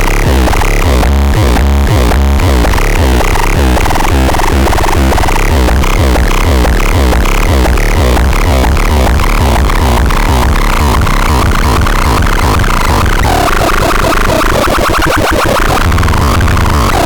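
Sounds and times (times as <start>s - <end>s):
electronic synthesizer music: 0.0s - 17.0s.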